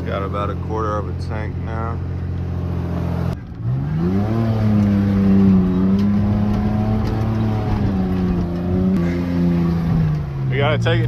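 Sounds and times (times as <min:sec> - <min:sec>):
pickup engine accelerating: 0:00.0 - 0:11.0.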